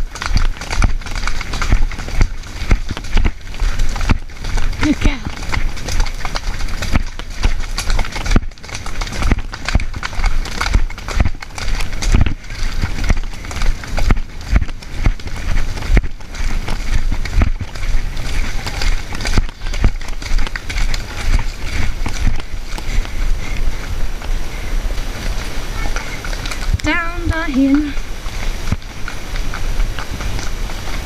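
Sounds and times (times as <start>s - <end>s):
horse hoofbeats on dirt: 0.0s - 31.0s
wind rumbling on microphone: 0.0s - 31.0s.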